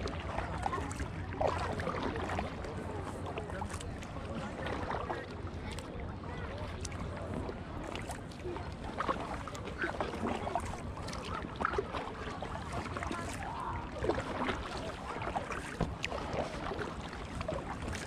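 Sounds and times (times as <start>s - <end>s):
water washing: 0.0s - 5.8s, 6.6s - 18.0s
paddle splashes and drips: 0.0s - 18.0s.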